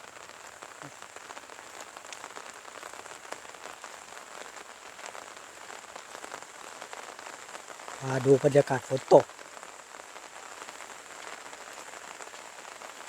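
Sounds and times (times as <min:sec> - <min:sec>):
light rain falling: 0:00.0 - 0:13.0
raindrops ticking on surfaces: 0:00.0 - 0:13.0.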